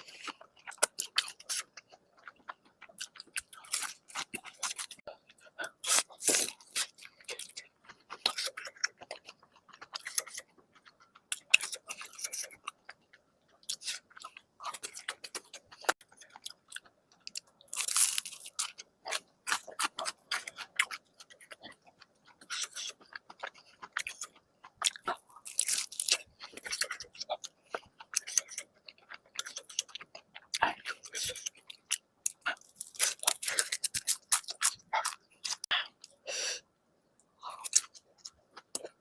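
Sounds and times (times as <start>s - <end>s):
chewing crispy food: 0.0s - 36.4s, 37.1s - 39.0s.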